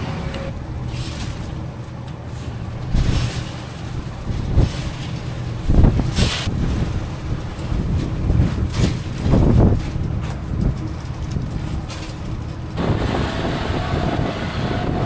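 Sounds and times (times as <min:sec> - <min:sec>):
farm machinery engine running: 0:00.0 - 0:15.0
wind buffeting microphone: 0:00.0 - 0:15.0.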